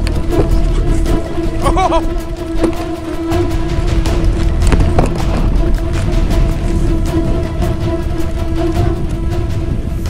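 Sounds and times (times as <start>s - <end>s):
background music with held note: 0.0s - 10.0s.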